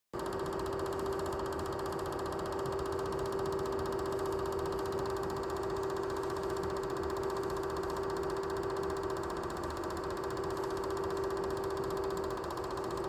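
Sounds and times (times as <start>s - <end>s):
film projector clatter: 0.2s - 13.0s
steady hum: 0.2s - 13.0s.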